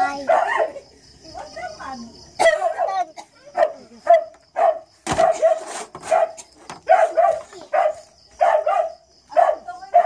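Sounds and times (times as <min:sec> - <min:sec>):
dog barking: 0:00.1 - 0:00.8, 0:02.4 - 0:10.0.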